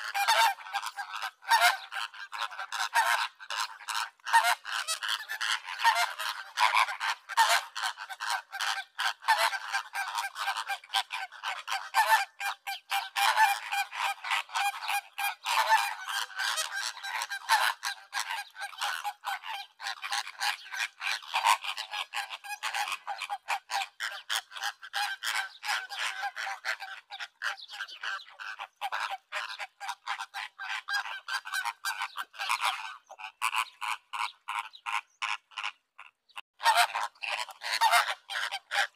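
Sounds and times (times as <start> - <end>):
flock of flamingos calling: 0.0 - 38.9.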